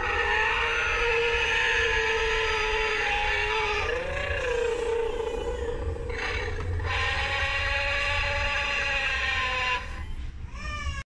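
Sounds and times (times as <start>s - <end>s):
toy electronic roar: 0.0s - 10.0s
low hum: 0.0s - 10.4s.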